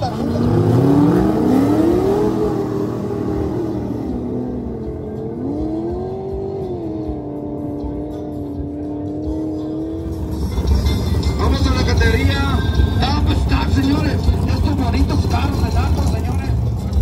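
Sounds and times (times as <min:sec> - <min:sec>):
racing car engine at full throttle: 0:00.0 - 0:17.0.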